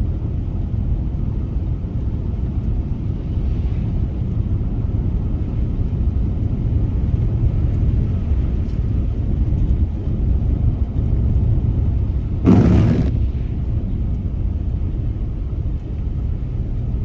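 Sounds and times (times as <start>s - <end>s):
car driving on snowy road: 0.0s - 17.0s.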